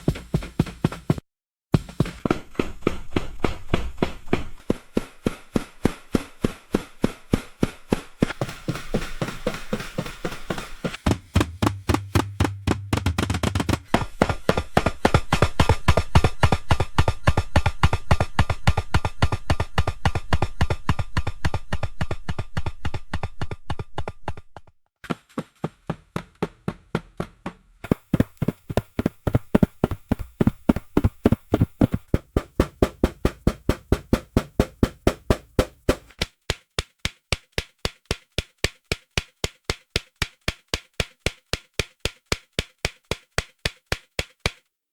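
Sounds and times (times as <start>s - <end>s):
footsteps running on concrete: 0.0s - 44.6s.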